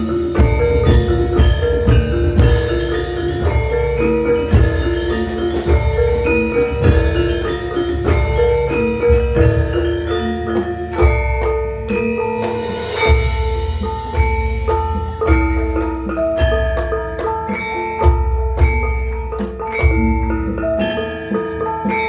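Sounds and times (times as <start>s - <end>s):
metallophones and gongs ringing: 0.0s - 22.0s.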